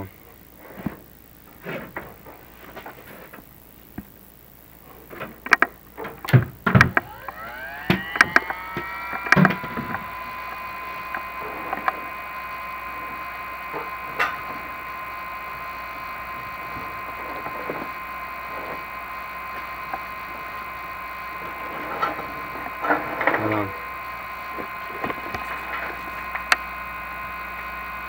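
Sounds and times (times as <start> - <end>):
small electric motor whining: 4.9 - 28.0.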